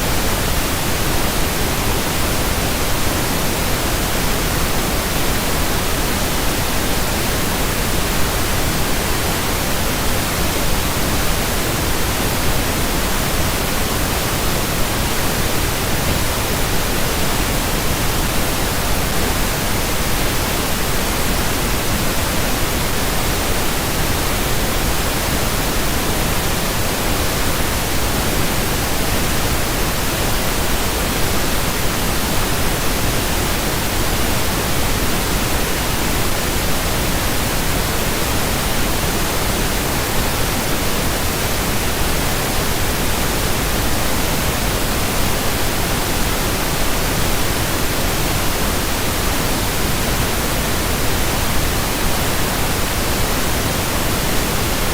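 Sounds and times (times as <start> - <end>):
pink noise hiss: 0.0 - 54.9.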